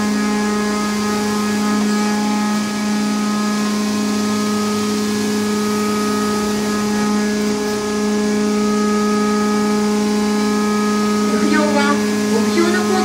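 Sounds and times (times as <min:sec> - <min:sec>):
ground power cart humming: 0:00.0 - 0:13.0.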